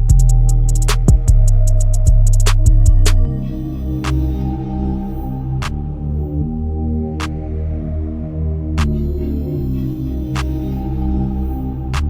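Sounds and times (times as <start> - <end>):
electronic music with driving beat: 0.0 - 12.0
soft synth chords: 0.0 - 12.0.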